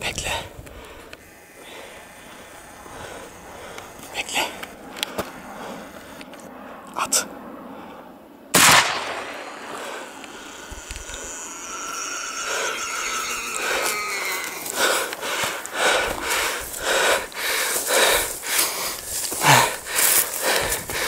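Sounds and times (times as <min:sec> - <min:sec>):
person panting hard: 0:00.0 - 0:06.7, 0:09.5 - 0:21.0
faint drawn-out falling whines: 0:00.6 - 0:17.9.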